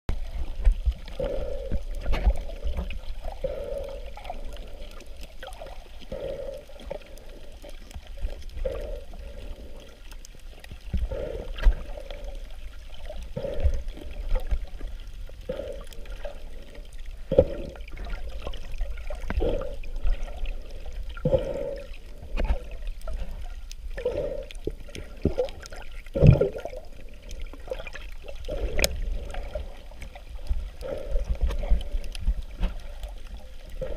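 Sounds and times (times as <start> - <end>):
muffled underwater rumble: 0.1 - 33.9.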